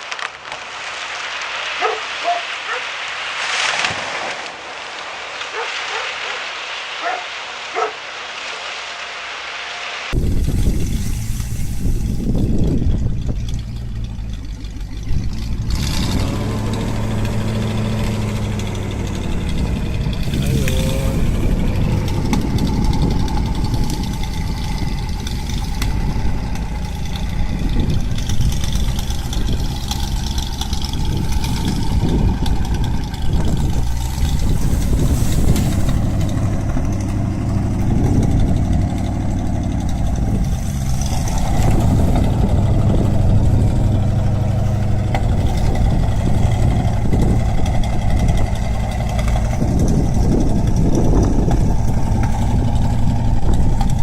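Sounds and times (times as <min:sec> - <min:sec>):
engine-driven machinery humming: 0:10.0 - 0:54.0.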